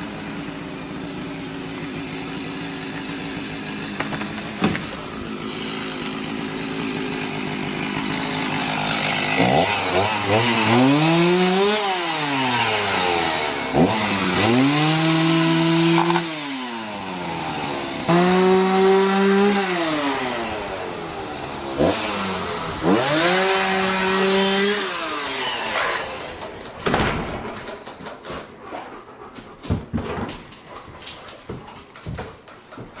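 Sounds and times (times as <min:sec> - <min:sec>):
chainsaw revving: 0:00.0 - 0:26.8.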